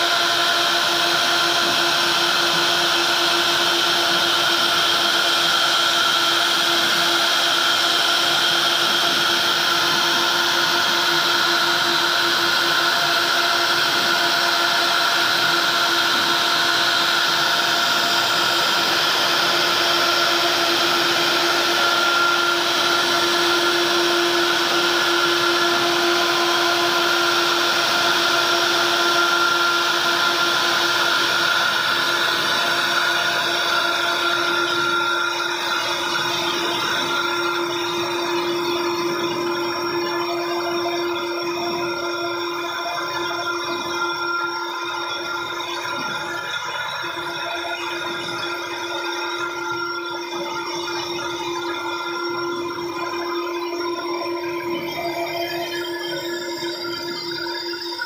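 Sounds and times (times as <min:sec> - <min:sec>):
router spindles whining: 0:00.0 - 0:58.0.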